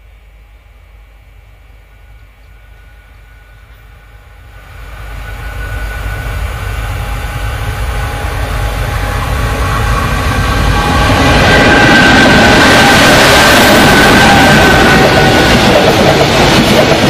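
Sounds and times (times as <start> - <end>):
electric locomotives rumbling: 0.0 - 17.0
steady locomotive whine: 0.0 - 17.0.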